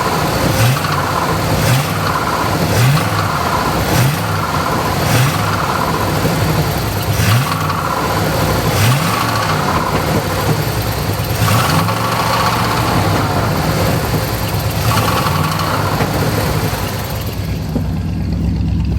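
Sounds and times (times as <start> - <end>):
engine running with throttle blips: 0.0 - 18.9.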